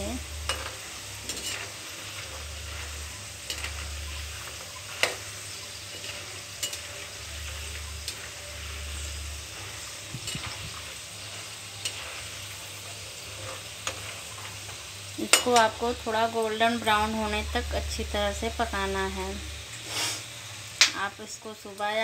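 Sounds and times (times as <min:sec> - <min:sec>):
metal spoon stirring oil: 0:00.0 - 0:20.2
peanuts sizzling in oil: 0:00.0 - 0:22.0.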